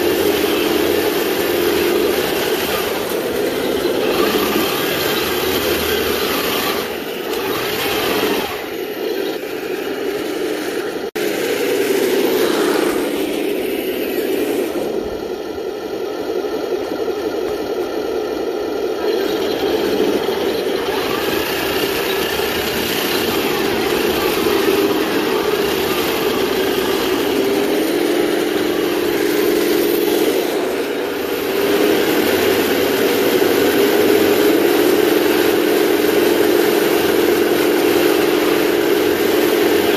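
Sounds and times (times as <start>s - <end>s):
simulated tank engine: 0.0s - 39.9s.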